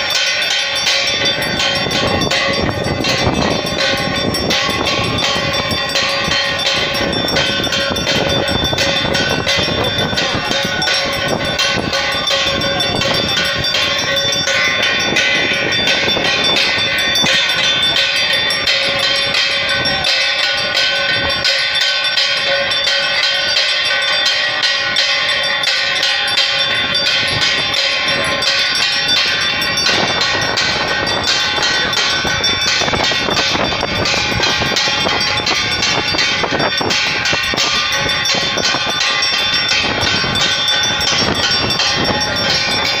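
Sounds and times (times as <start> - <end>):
cymbals clanging: 0.0 - 43.0
hand bells ringing: 0.0 - 43.0.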